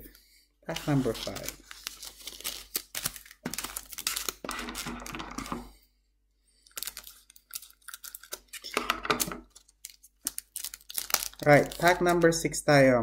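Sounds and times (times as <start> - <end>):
foil pack crinkling: 0.7 - 5.6, 6.6 - 12.4.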